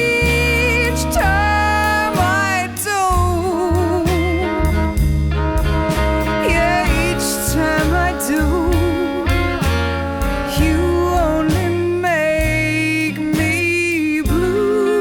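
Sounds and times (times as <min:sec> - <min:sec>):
bass stepping through notes: 0:00.0 - 0:15.0
drums: 0:00.0 - 0:15.0
horn melody lines: 0:00.0 - 0:15.0.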